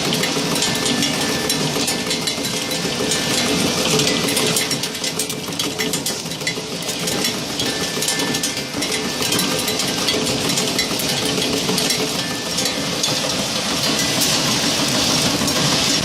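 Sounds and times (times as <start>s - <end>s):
wrapping machine clattering: 0.0s - 16.0s.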